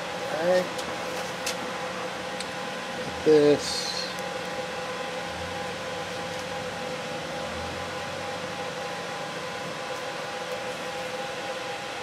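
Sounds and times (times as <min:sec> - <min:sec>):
steady hum: 0:00.0 - 0:12.0
steady whining tones: 0:00.0 - 0:12.0.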